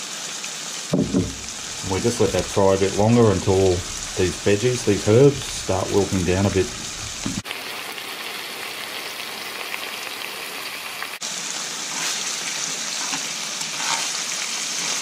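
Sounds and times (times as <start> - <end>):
fish and herbs sizzling in oil: 0.0 - 15.0.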